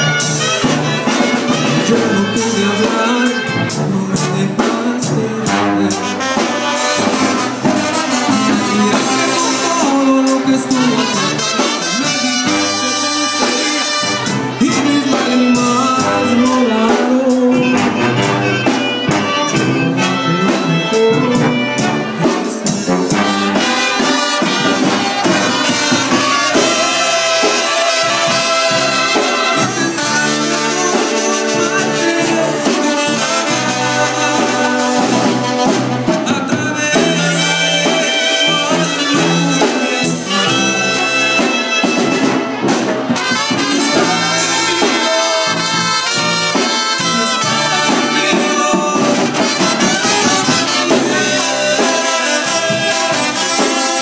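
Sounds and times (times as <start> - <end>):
trombones: 0.0 - 54.0
trumpets: 0.0 - 54.0.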